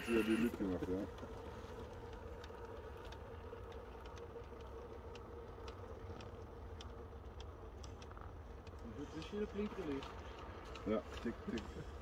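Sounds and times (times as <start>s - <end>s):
light irregular clicks: 0.0s - 12.0s
toy crawler motor hum: 0.0s - 12.0s.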